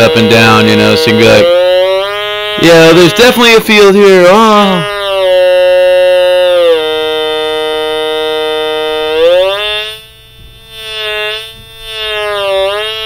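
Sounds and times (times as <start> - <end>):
buzzy synthesizer tone: 0.0 - 13.0.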